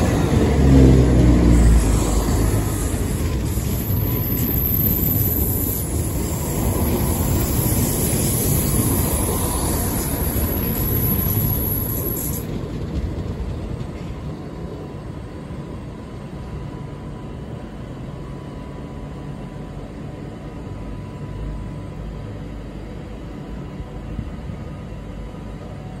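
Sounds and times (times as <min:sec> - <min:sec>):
diesel train pulling away: 0:00.0 - 0:26.0.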